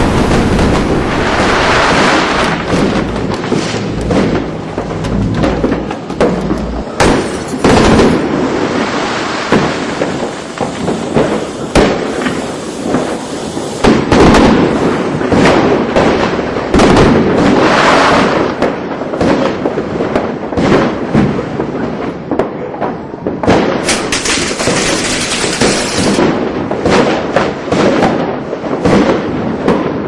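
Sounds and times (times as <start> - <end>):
fireworks crackling: 0.0 - 22.5, 23.3 - 30.0
fireworks bangs and booms: 0.0 - 30.0.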